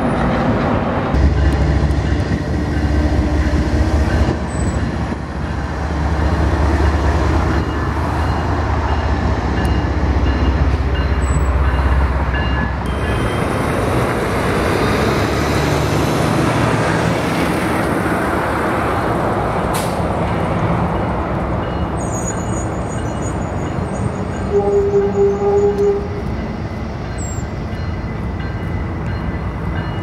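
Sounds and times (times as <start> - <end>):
diesel locomotive engine humming: 0.0 - 30.0
train wheels rumbling on rails: 0.0 - 30.0.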